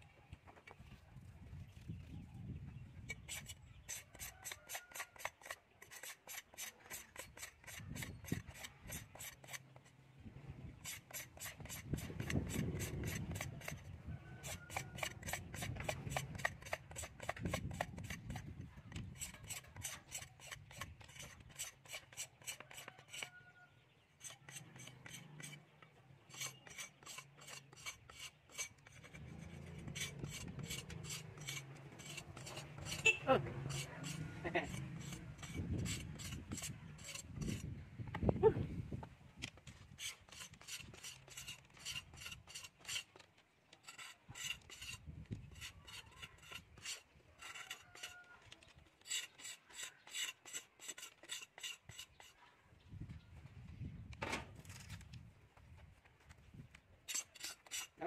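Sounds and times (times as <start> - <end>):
bamboo rod being scraped: 3.0 - 10.0, 10.8 - 23.4, 24.1 - 38.3, 39.4 - 52.5, 57.0 - 58.0.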